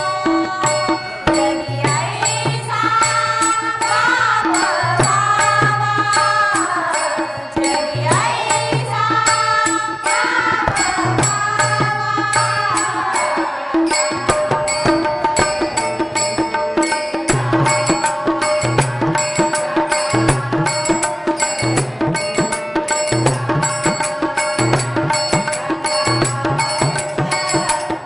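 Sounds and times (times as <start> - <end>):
harmonium: 0.0 - 28.0
women singing devotional song: 0.0 - 28.0.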